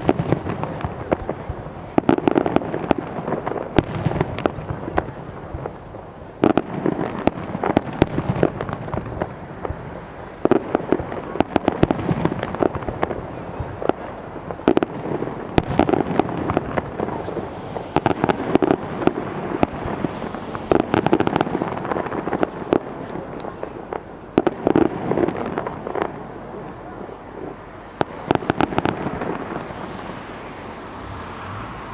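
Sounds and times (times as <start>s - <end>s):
fireworks bursting with bangs: 0.0s - 31.2s.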